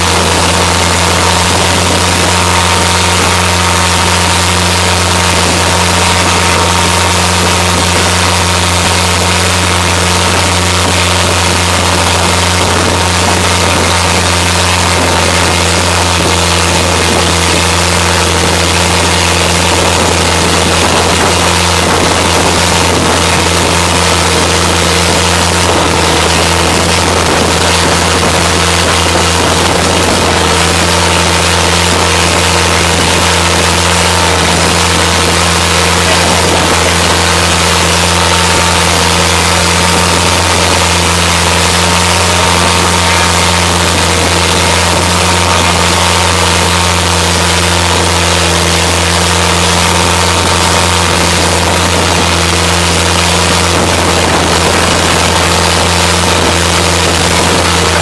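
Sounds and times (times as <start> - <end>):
boat engine drone: 0.0 - 58.0
rushing air: 0.0 - 58.0
water spray hissing: 0.0 - 58.0.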